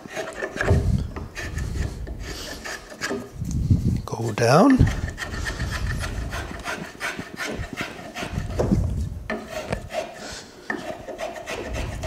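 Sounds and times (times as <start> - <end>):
spokeshave scraping wood: 0.0 - 12.0.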